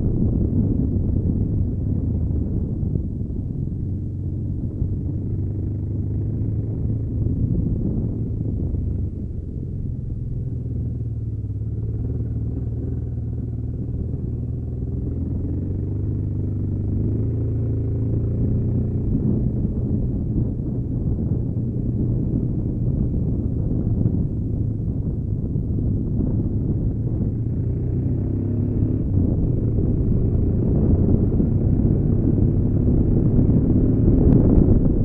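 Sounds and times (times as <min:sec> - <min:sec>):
gravel road noise: 0:00.0 - 0:35.0
motorcycle engine rumble: 0:00.0 - 0:35.0.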